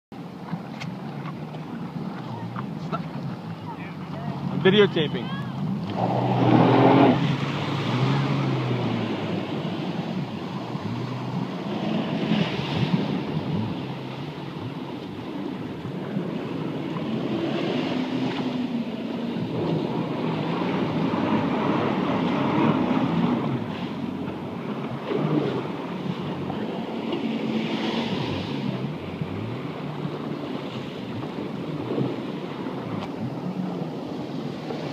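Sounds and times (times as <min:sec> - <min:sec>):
watercraft engine running: 0:00.1 - 0:34.9
waves washing: 0:00.1 - 0:34.9
wind buffeting microphone: 0:00.2 - 0:34.9.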